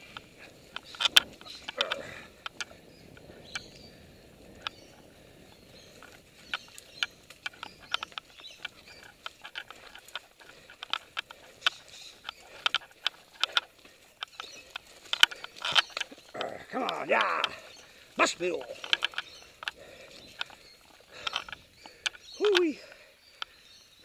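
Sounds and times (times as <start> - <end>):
bike rattling clicks and knocks: 0.0 - 3.8, 4.4 - 23.6
bike tyres rumbling on dirt: 0.0 - 22.9.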